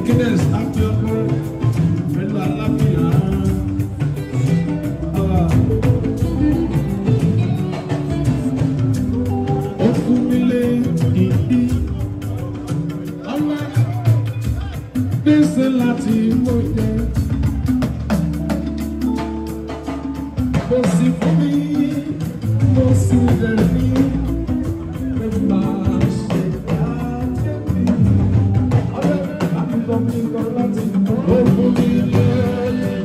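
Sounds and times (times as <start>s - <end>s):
hand drums and talking drum: 0.0s - 33.0s
man singing: 0.0s - 33.0s.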